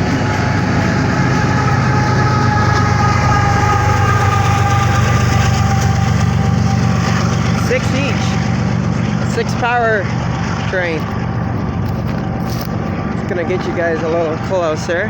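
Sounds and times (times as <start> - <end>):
steady high tones: 0.0 - 15.0
train rolling rumble: 0.0 - 15.0.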